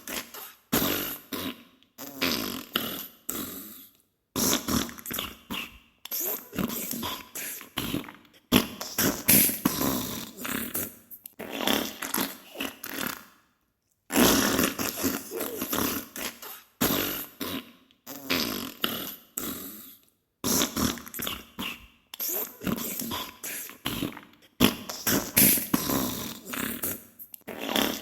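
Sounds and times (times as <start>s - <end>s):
sputtering fart bursts: 0.0s - 3.0s, 4.4s - 13.4s, 14.1s - 19.5s, 20.4s - 28.0s.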